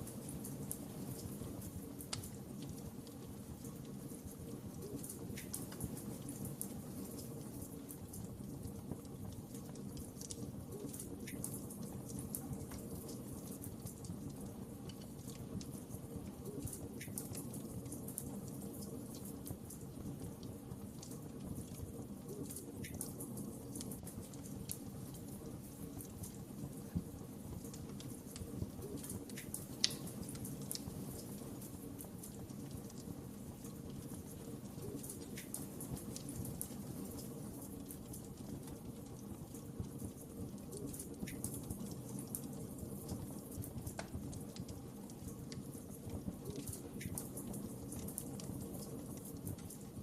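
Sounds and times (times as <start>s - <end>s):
wood fire crackling: 0.0s - 50.0s
fire pops: 0.1s - 50.0s.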